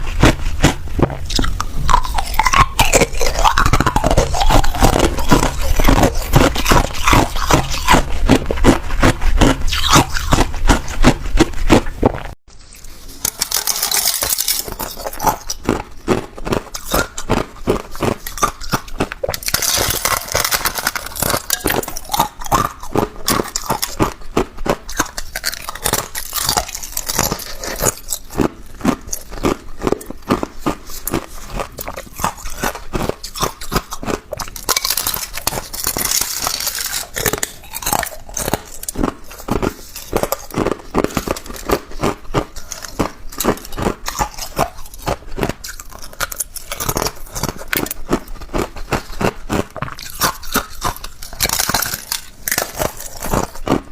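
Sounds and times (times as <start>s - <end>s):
person crunching ice: 0.0s - 53.9s.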